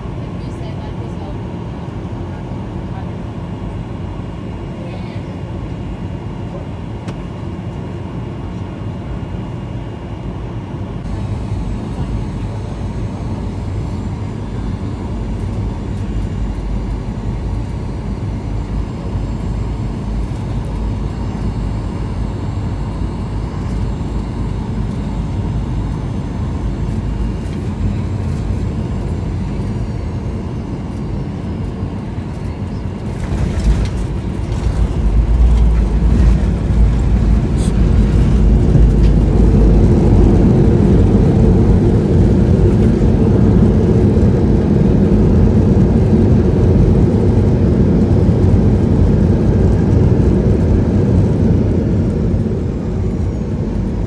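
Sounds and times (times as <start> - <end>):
jet engine and airflow rumble: 0.0 - 54.0.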